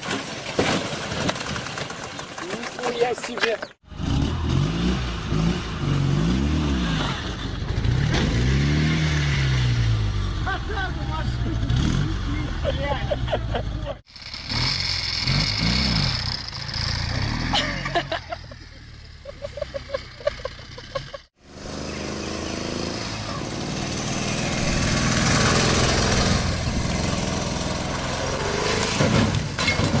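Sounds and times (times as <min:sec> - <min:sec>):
motorcycle engines revving: 0:02.5 - 0:29.3.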